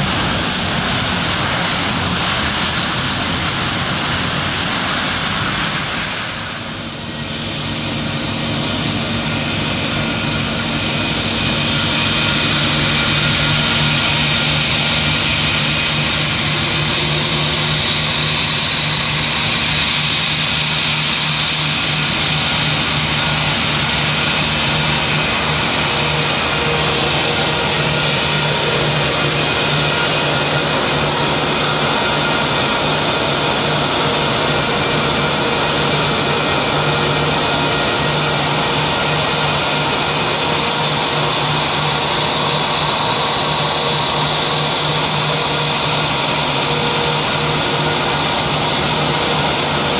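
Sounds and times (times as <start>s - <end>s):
jet engine whine: 0.0s - 49.9s.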